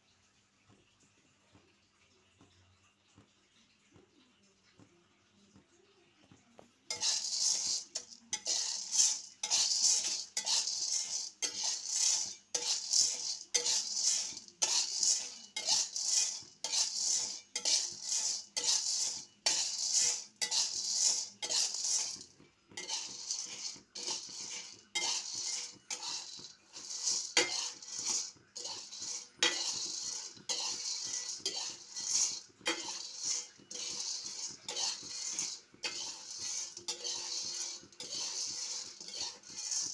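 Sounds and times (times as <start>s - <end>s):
spoon stirring beans in metal wok: 0.0s - 39.9s.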